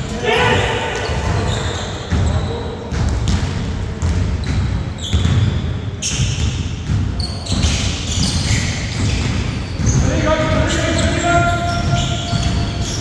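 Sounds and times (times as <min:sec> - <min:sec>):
sneakers squeaking on floor: 0:00.0 - 0:13.0
basketball bouncing on court: 0:00.5 - 0:13.0.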